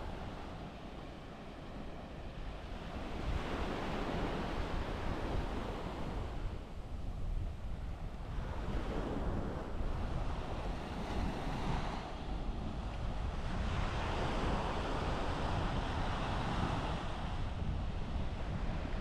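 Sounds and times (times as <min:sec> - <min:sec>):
surf breaking on a beach: 0:00.0 - 0:19.0
wind rumble on microphone: 0:00.0 - 0:19.0.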